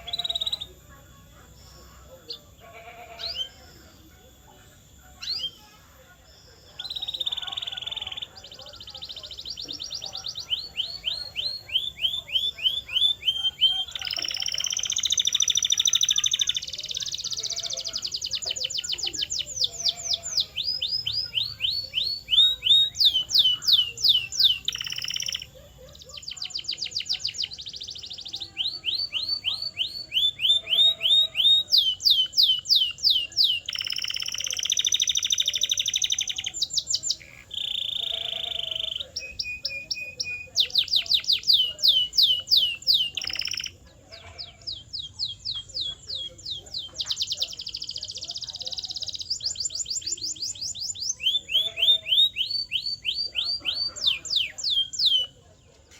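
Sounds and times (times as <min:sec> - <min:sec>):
canary singing: 0:00.0 - 0:55.9.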